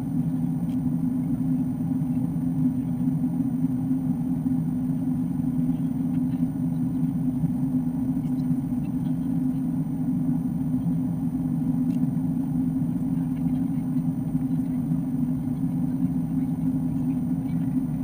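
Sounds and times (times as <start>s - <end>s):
jet engines drone in cabin: 0.0s - 18.0s.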